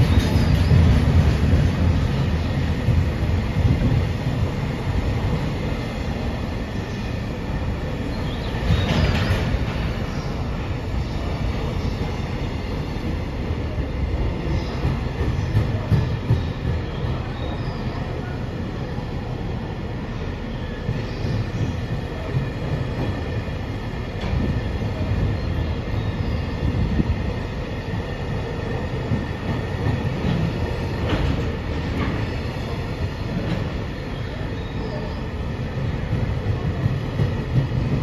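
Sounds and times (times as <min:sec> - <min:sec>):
rumble of train wheels on rail: 0:00.0 - 0:38.0.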